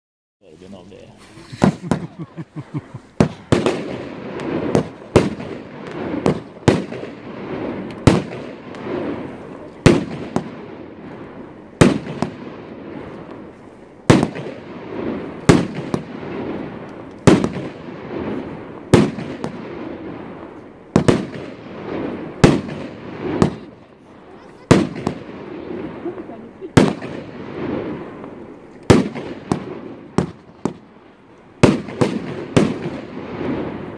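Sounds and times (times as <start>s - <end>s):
fireworks bangs: 0.5s - 33.9s.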